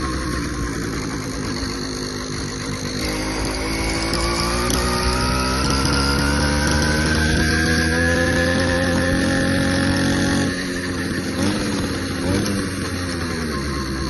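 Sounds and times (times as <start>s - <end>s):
small engine running: 0.0s - 14.0s
thin high whine: 0.0s - 14.0s.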